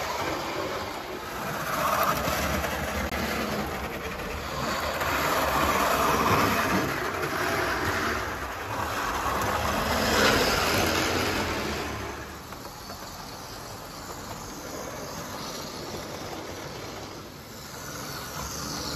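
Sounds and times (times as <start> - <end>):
model train rattling whirr: 0.0 - 18.9.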